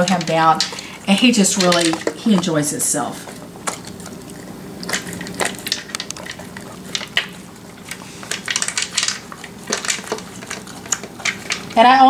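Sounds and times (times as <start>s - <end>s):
pellets rattling against plastic: 0.0s - 2.7s, 5.0s - 12.0s
dog eating dry kibble: 0.0s - 12.0s.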